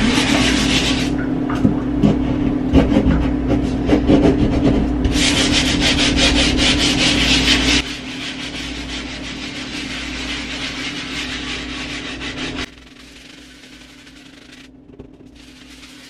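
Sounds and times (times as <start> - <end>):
brush scrubbing a wall: 0.0 - 1.2, 2.0 - 16.0.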